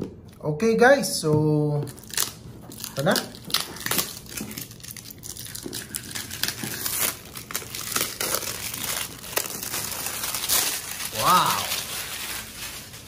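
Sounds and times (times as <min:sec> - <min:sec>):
plastic shrink wrap crinkling: 0:01.7 - 0:13.0.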